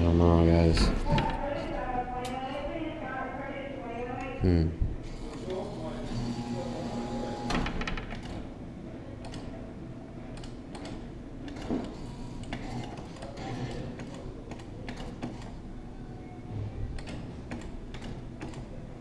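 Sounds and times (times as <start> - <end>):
arcade background noise: 0.0 - 19.0.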